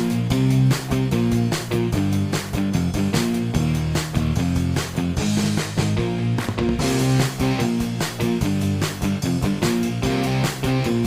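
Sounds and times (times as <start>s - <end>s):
guitar music over steady beat: 0.0s - 11.0s.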